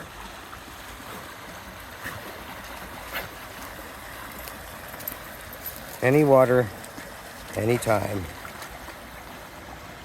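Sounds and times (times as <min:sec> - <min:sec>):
creek rushing: 0:00.0 - 0:10.0.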